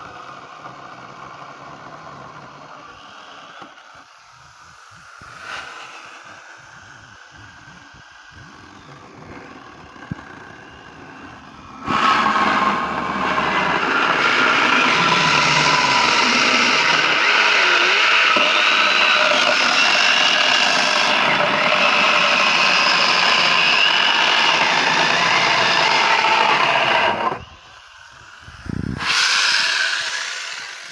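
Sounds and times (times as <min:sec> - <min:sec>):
chainsaw grinder sawing wood: 0:00.0 - 0:03.8, 0:07.3 - 0:30.9.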